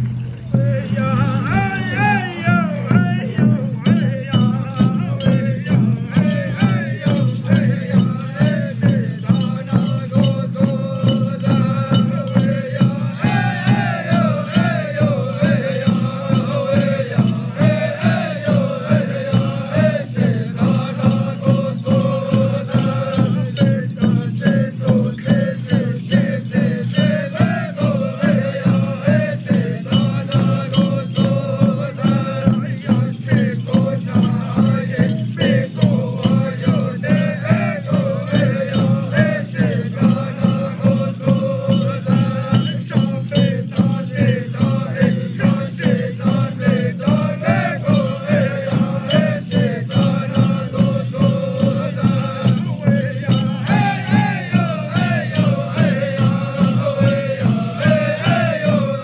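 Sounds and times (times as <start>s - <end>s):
hand drums beating: 0.0s - 59.0s
men chanting in unison: 0.5s - 59.0s.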